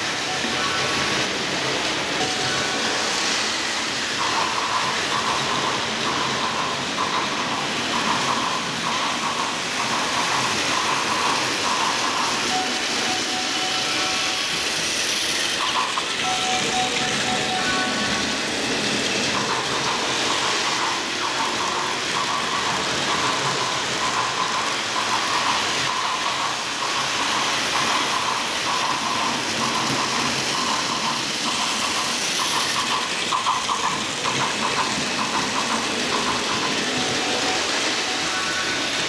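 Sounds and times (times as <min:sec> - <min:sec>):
model train whirring: 0:00.0 - 0:39.0
rapid irregular clicking: 0:01.1 - 0:13.6, 0:14.4 - 0:39.0.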